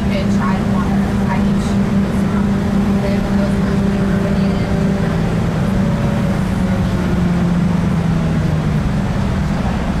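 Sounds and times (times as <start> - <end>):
train diesel engine droning: 0.0 - 10.0
wheels rumbling on rail: 0.0 - 10.0.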